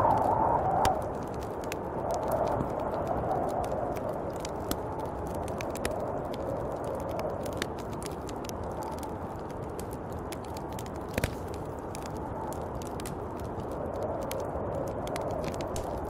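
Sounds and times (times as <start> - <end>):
sharp ticks and crackles: 0.0 - 16.0
snowstorm wind blowing: 0.0 - 16.0.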